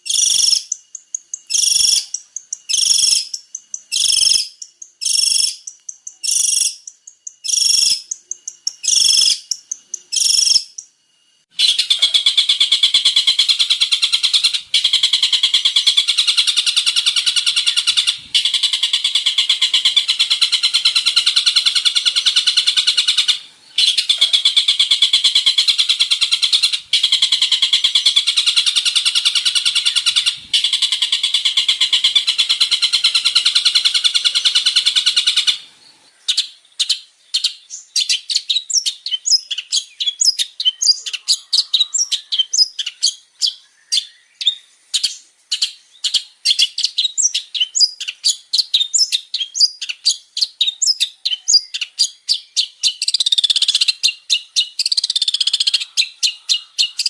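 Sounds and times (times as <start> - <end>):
bird chattering song: 0.0 - 11.0, 11.6 - 57.0.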